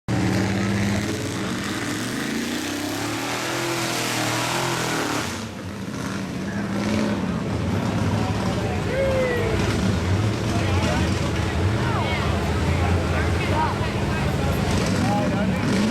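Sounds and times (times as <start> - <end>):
truck engine revving: 0.1 - 15.9.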